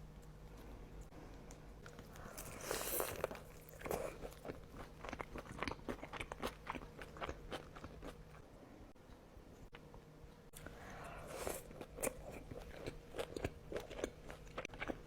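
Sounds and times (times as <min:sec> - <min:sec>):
chewing with crisp clicks: 0:00.1 - 0:08.4, 0:09.1 - 0:15.0.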